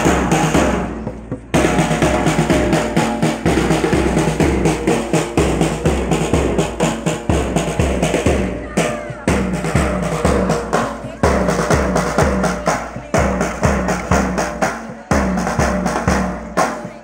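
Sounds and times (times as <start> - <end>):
bass drum beating: 0.0 - 17.0
snare drum beating: 0.0 - 17.0.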